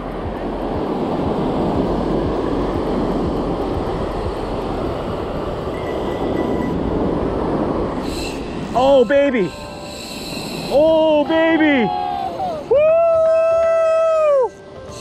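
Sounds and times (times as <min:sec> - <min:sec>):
surf washing: 0:00.0 - 0:14.3.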